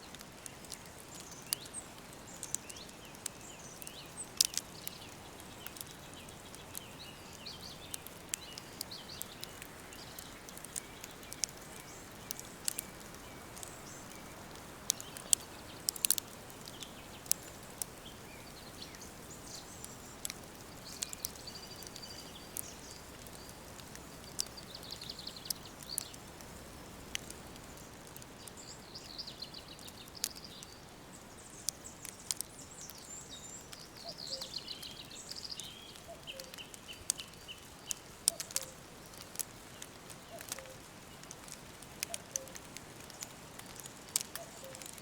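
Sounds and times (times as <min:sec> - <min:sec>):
sharp crackles and snaps: 0:00.0 - 0:45.0
birds chirping: 0:00.1 - 0:45.0.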